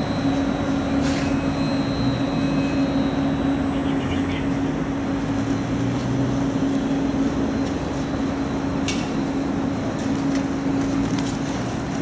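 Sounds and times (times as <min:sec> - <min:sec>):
low engine drone: 0:00.0 - 0:12.0
traffic noise: 0:00.0 - 0:12.0.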